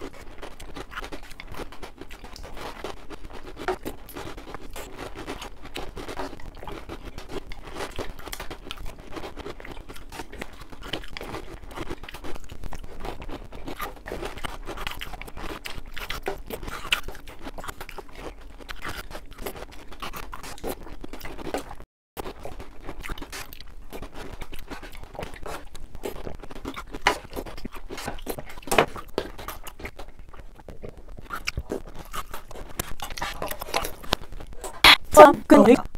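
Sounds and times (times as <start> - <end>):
crunching and chewing cereal: 0.0 - 35.2.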